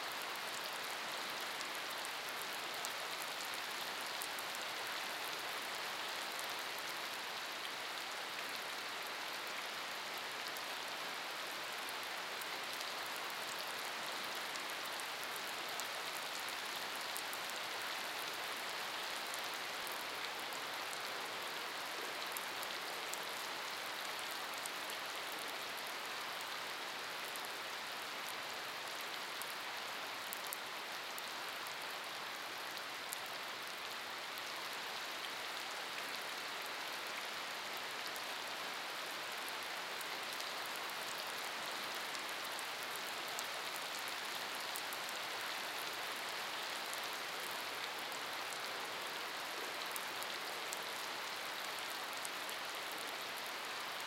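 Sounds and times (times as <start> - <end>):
rain hissing on pavement: 0.0 - 54.0.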